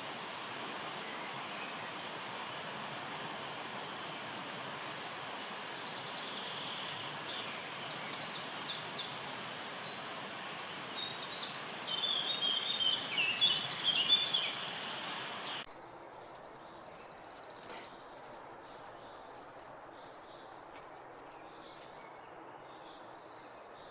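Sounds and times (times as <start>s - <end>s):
steady rushing hiss: 0.0s - 21.3s
songbirds trilling and chirping: 0.0s - 23.9s.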